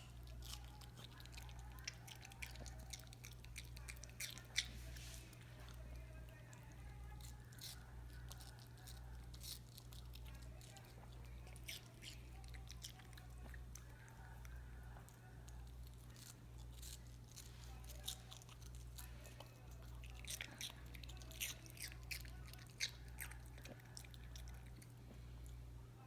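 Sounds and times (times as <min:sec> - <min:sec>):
dog biting watermelon: 0:00.0 - 0:25.0
low steady hum: 0:00.0 - 0:26.0.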